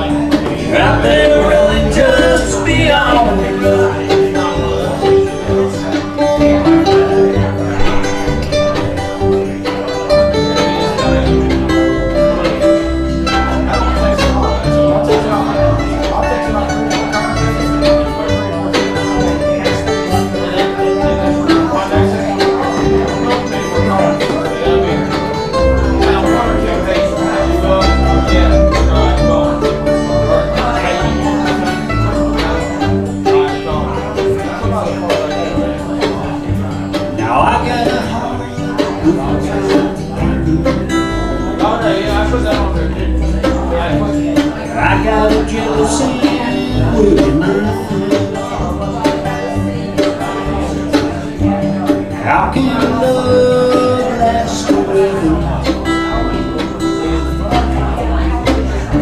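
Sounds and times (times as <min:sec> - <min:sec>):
banjo picking: 0:00.0 - 0:59.0
bass line: 0:00.0 - 0:59.0
guitar picking: 0:00.0 - 0:59.0
plucked string instruments melody: 0:00.0 - 0:59.0.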